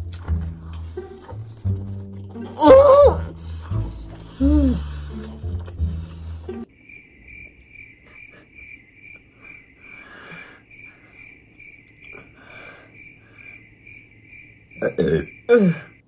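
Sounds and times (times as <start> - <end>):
cricket chirping: 0.6 - 16.0.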